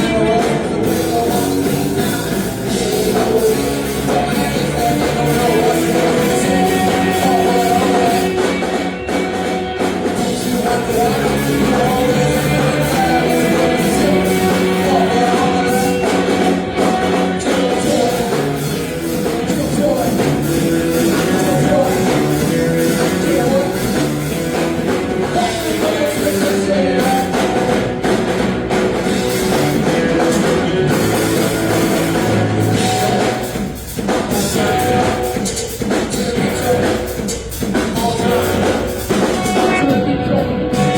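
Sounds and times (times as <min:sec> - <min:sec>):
rock music with singing and drums: 0:00.0 - 0:40.9.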